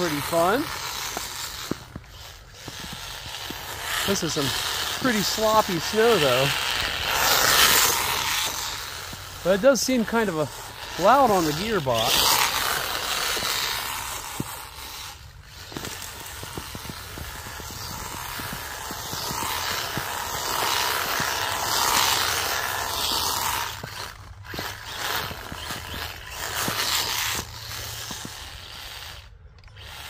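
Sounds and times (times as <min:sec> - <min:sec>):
toy car electric motor whining: 0:00.0 - 0:30.0.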